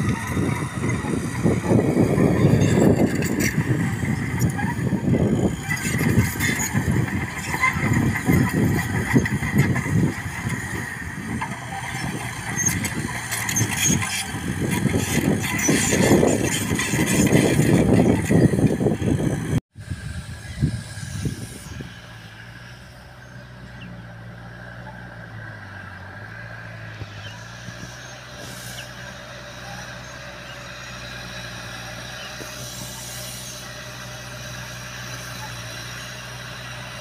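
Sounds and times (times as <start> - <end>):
bulldozer diesel engine working: 0.0 - 37.0.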